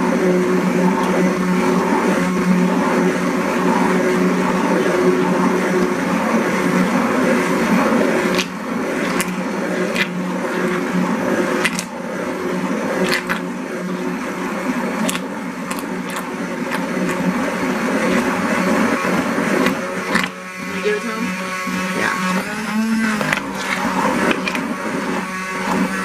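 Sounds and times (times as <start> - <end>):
stick blender motor humming: 0.0 - 26.0.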